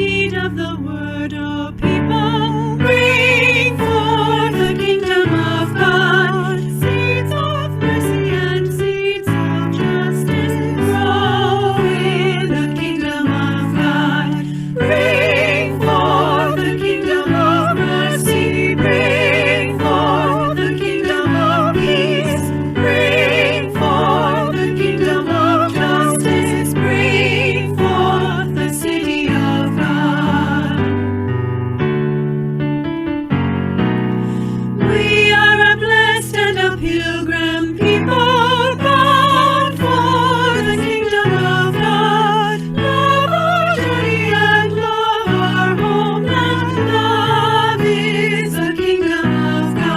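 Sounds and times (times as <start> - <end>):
sustained keyboard chords: 7.8 - 49.9.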